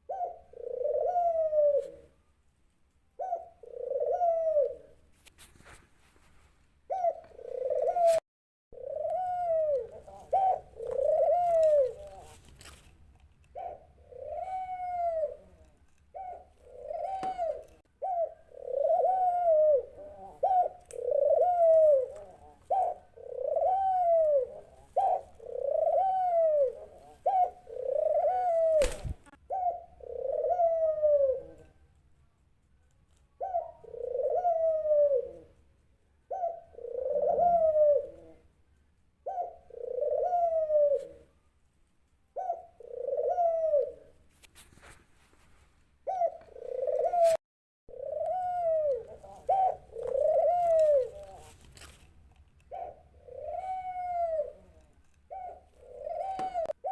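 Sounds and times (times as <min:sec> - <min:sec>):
dove cooing: 0:00.0 - 0:02.2, 0:03.2 - 0:05.0, 0:06.9 - 0:08.2, 0:08.8 - 0:12.8, 0:13.5 - 0:31.8, 0:33.3 - 0:35.6, 0:36.2 - 0:38.6, 0:39.2 - 0:41.4, 0:42.3 - 0:44.2, 0:46.0 - 0:52.0, 0:52.6 - 0:56.9.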